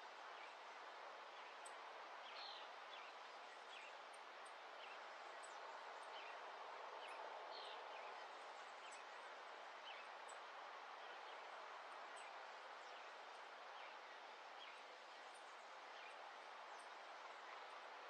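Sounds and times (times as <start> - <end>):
soft outdoor hiss: 0.0 - 18.0.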